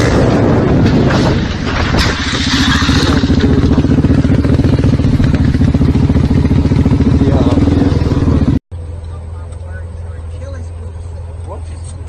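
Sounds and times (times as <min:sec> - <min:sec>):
motorcycle engine running: 0:02.2 - 0:12.0.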